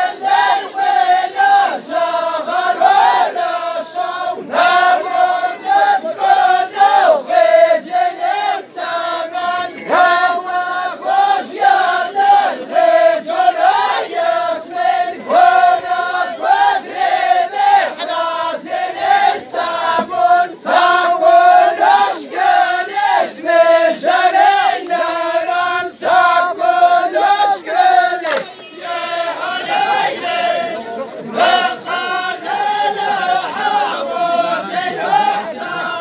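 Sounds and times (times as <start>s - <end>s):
group singing chant-like song: 0.0s - 36.0s.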